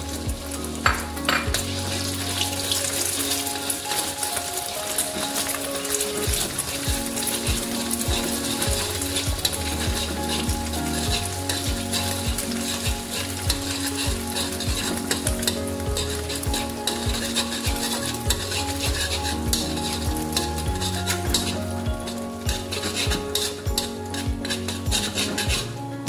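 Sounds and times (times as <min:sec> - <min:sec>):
metal spoon scraping wok: 0:00.0 - 0:25.8
egg sizzling in hot oil: 0:00.0 - 0:26.0.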